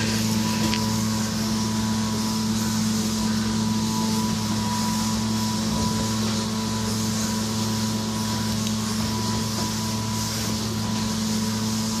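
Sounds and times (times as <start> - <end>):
blowing machine hum: 0.0 - 12.0
rush of air through hose: 0.0 - 12.0.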